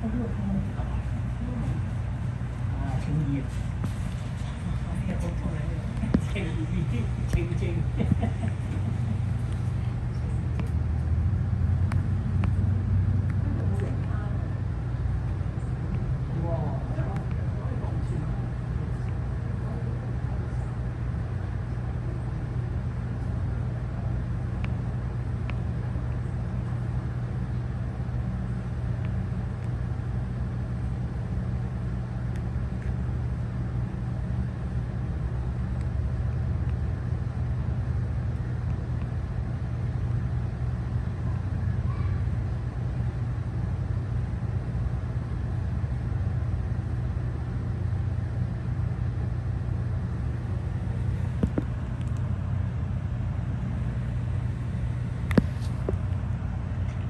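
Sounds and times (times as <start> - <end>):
low machinery hum: 0.0 - 57.0.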